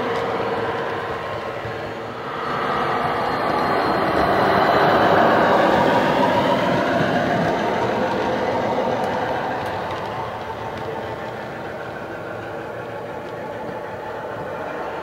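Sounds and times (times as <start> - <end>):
model diesel locomotive engine: 0.0 - 15.0.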